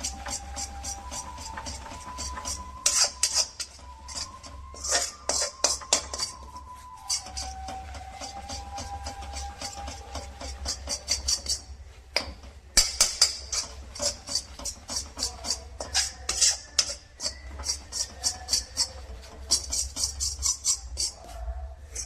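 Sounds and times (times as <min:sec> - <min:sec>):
spoon knocking against pan: 0:00.0 - 0:06.4, 0:07.1 - 0:21.1
spoon scraping sticky mixture in pan: 0:00.0 - 0:22.0.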